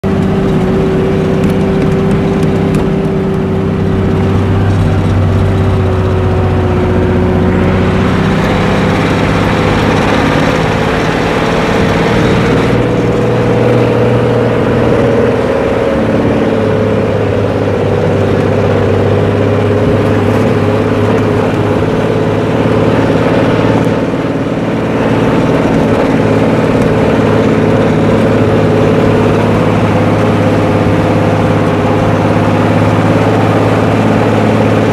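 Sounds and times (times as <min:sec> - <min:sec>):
engine with loud exhaust rumbling: 0:00.0 - 0:34.9.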